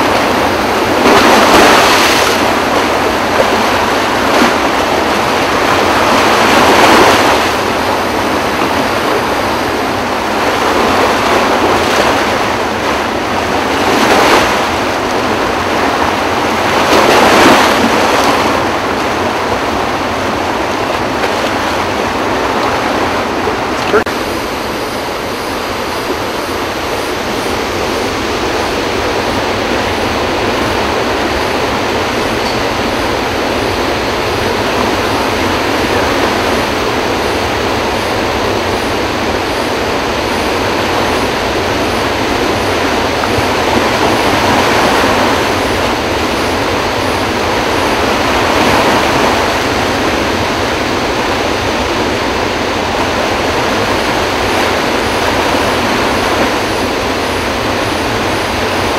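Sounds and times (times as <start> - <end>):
water rushing through dam spillway: 0.0 - 58.9.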